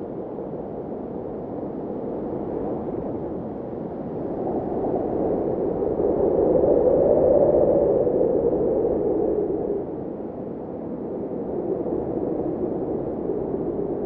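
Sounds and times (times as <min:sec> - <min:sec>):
blizzard wind rushing: 0:02.0 - 0:14.0.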